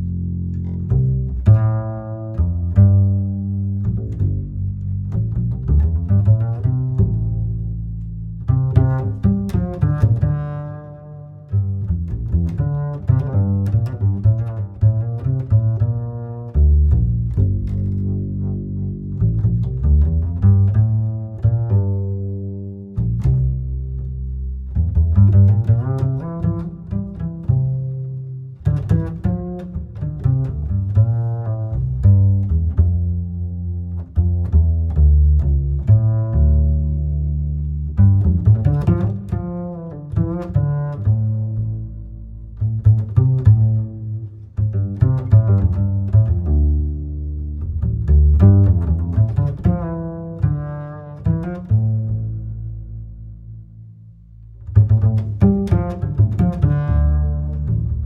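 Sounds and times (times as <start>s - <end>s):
low strings plucked and bowed: 0.0s - 58.0s.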